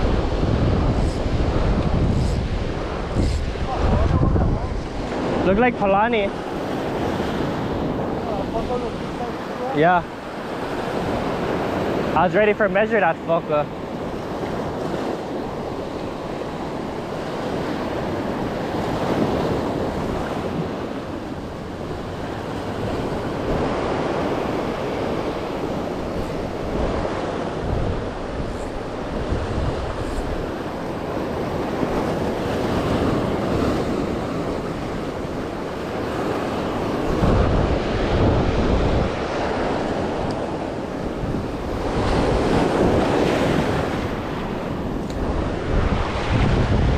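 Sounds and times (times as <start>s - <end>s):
surf breaking on rocks: 0.0s - 46.9s
wind buffeting microphone: 0.0s - 46.9s.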